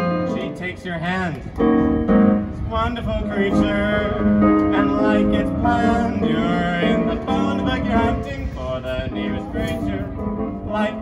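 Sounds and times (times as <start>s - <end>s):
electric piano playing swing: 0.0s - 11.0s.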